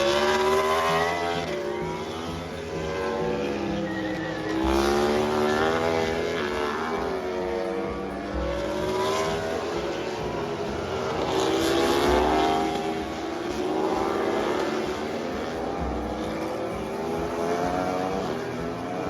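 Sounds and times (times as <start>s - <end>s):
racing motorcycles passing at speed: 0.0s - 19.0s.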